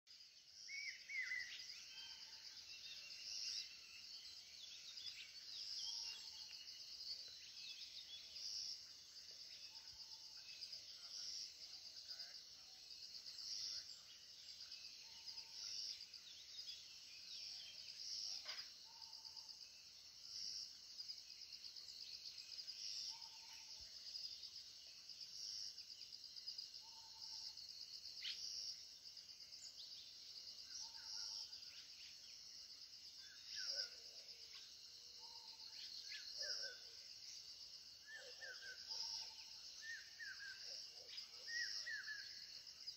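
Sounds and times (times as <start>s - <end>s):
insect chorus trilling: 0.1s - 42.9s.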